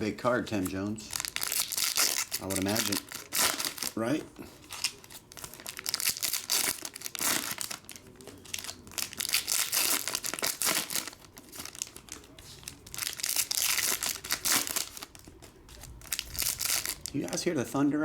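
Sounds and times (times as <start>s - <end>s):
foil wrappers crinkling and tearing: 0.5s - 17.5s.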